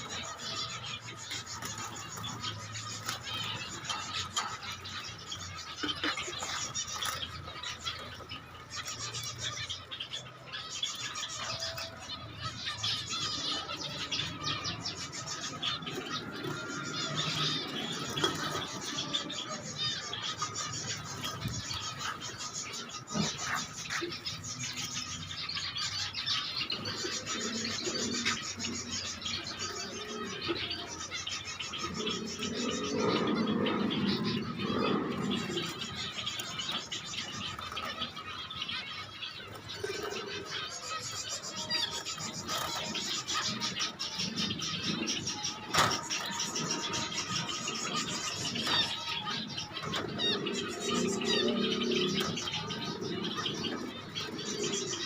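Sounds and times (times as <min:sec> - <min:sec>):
finch chirping: 0:00.0 - 0:55.0.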